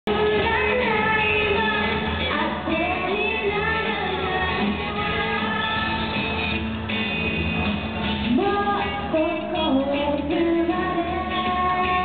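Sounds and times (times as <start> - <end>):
woman singing: 0.1 - 6.3, 8.3 - 12.0
pop backing track with bass: 0.1 - 12.0.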